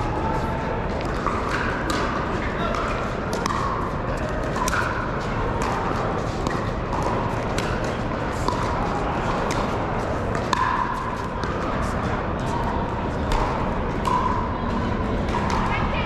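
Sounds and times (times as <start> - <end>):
crowd voices in a hall: 0.0 - 16.0
paddles striking balls: 0.9 - 16.0.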